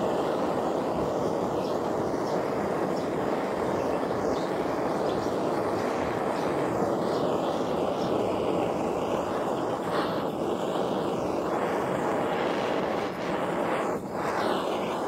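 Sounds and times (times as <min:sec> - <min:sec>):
blowtorch flame roaring hiss: 0:00.0 - 0:15.0.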